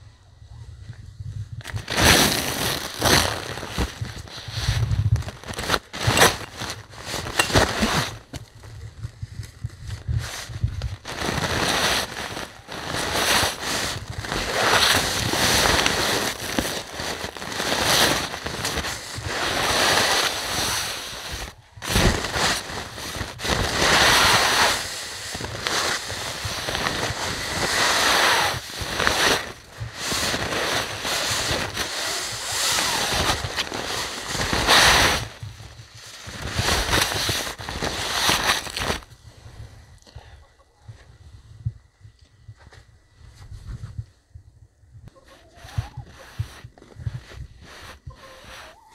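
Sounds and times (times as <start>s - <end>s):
gusty wind on microphone: 0.0s - 48.9s.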